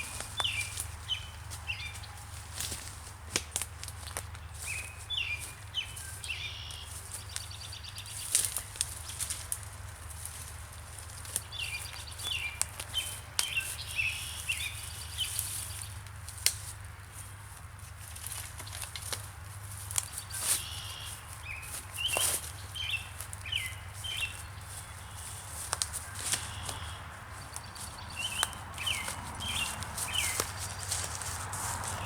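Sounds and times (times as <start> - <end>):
songbird chirping: 0.0 - 2.9, 3.9 - 16.1, 18.1 - 32.0
clicks and snaps in leaf litter: 0.0 - 32.0.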